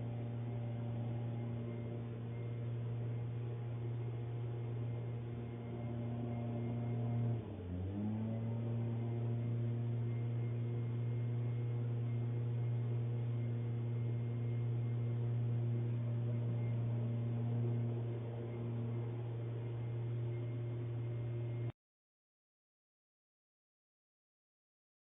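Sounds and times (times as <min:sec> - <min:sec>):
steady low hum with higher tones: 0:00.0 - 0:21.7.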